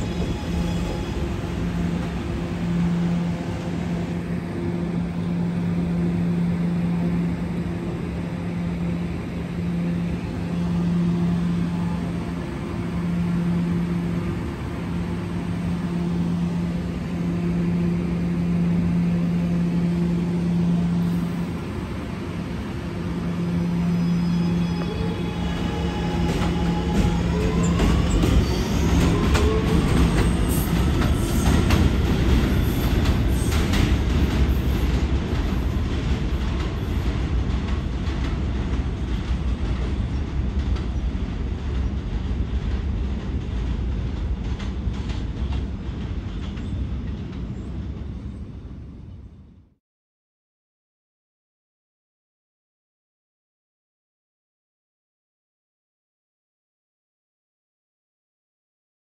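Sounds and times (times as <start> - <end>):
subway train motor whine: 0.0 - 49.6.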